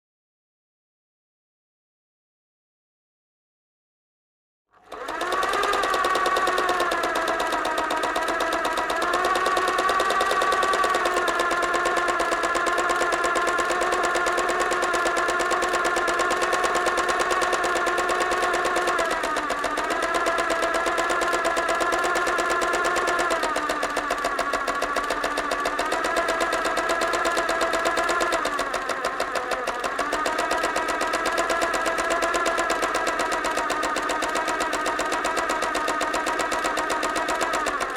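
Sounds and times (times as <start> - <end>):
electric sewing machine running: 4.7 - 37.9.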